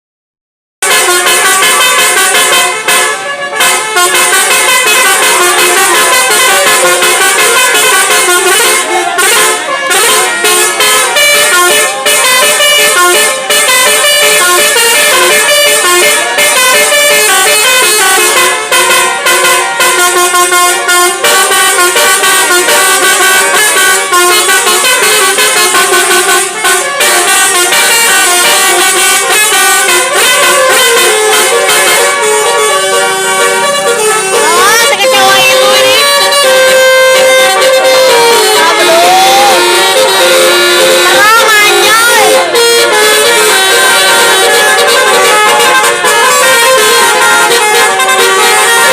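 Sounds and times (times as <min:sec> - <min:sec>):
multi-tone bus horns blasting: 0:00.8 - 0:48.9.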